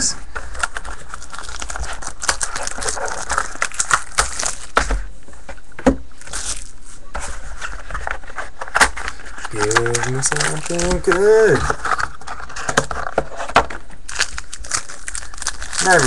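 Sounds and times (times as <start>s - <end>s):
packaging crinkling: 0.4s - 5.1s, 6.1s - 16.0s.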